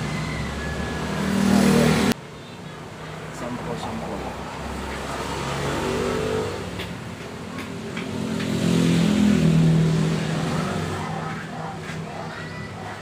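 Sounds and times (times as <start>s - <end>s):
vehicle engine passing by: 0.0s - 2.2s, 3.2s - 13.0s.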